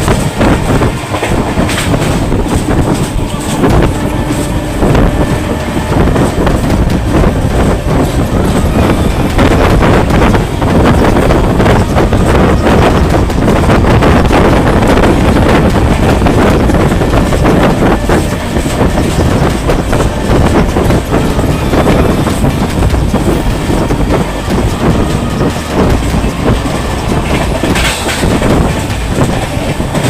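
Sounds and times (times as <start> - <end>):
rapid rattle of train wheels: 0.0 - 30.0
train rumbling on rails: 0.0 - 30.0.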